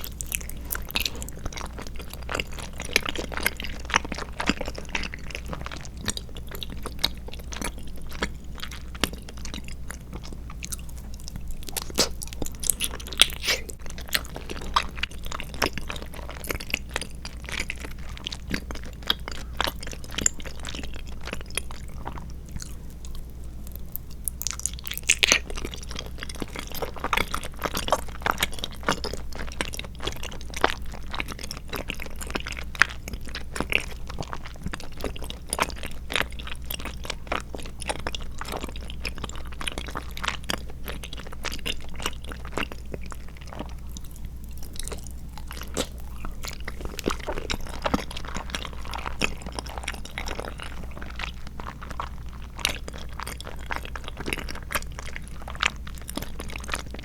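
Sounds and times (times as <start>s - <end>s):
close-miked wet chewing: 0.0s - 57.0s.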